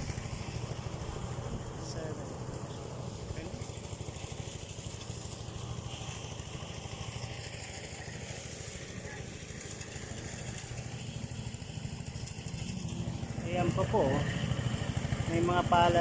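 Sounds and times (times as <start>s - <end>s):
small engine chugging: 0.0s - 16.0s.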